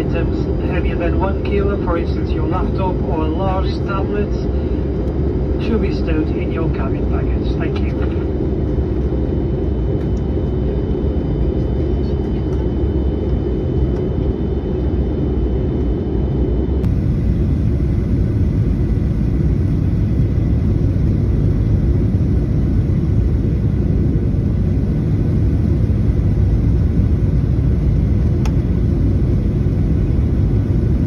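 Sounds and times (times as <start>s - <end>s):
jet airliner cabin rumble: 0.0s - 31.0s.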